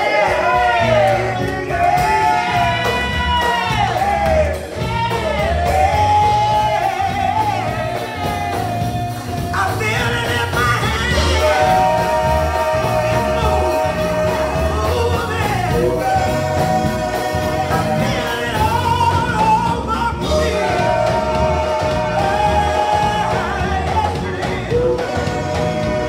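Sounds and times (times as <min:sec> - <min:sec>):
instrumental accompaniment: 0:00.0 - 0:26.0
people singing gospel song: 0:00.0 - 0:26.0.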